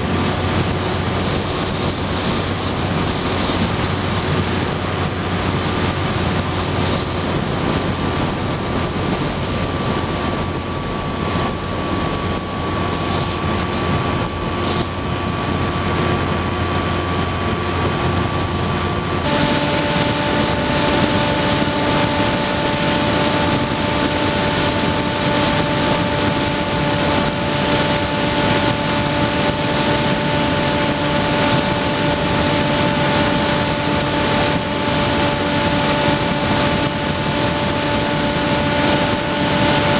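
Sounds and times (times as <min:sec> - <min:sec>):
electric motor and propeller: 0:00.0 - 0:39.9
rushing wind: 0:00.0 - 0:39.9.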